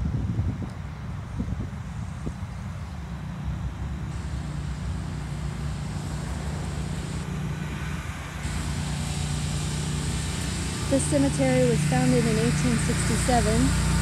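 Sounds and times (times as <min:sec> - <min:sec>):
lawn mower engine running: 0:01.9 - 0:14.0.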